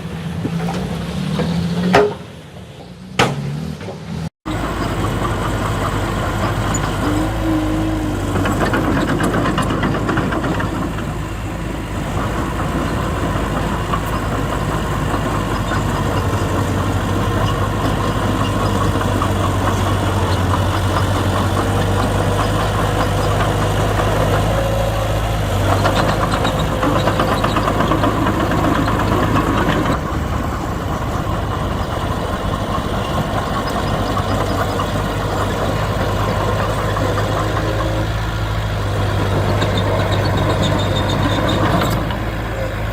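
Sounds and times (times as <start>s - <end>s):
heavy diesel machinery engine: 0.0s - 42.9s.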